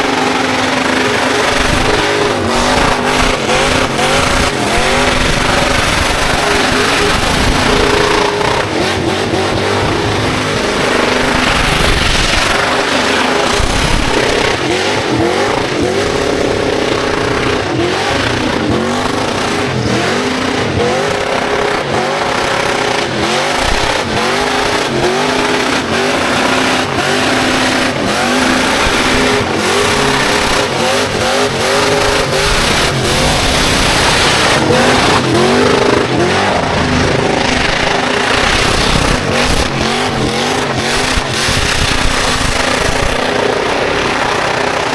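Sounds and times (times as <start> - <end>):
car engine revving hard: 0.0 - 44.9
tyres spinning: 0.0 - 44.9.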